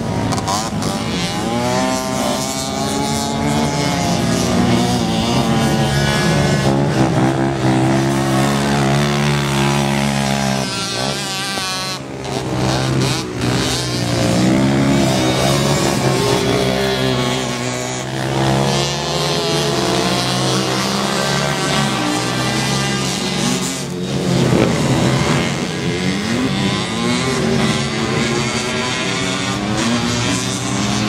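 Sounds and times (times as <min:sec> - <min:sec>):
quad engines at full throttle: 0:00.0 - 0:31.0.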